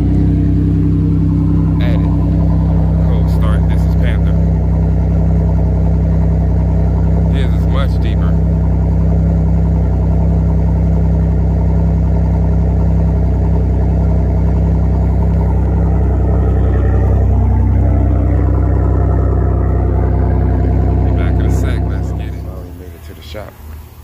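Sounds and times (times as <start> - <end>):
loud car exhaust drone: 0.0 - 24.0.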